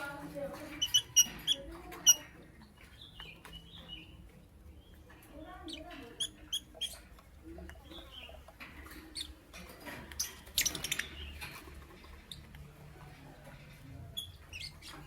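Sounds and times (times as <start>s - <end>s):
lovebirds chirping: 0.1s - 15.0s.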